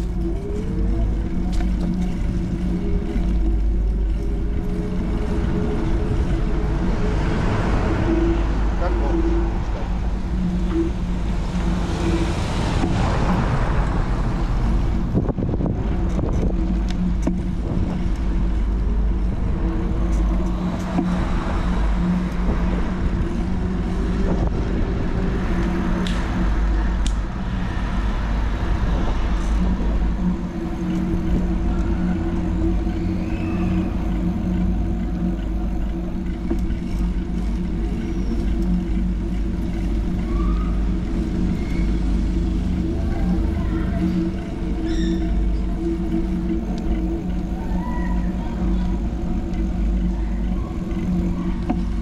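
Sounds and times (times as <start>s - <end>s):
vehicle engine hum: 0.0s - 52.0s
wind on microphone: 0.0s - 52.0s.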